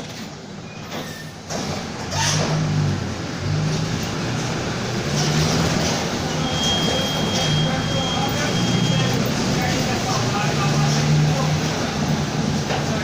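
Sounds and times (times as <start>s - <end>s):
bus diesel engine accelerating: 0.0s - 13.0s.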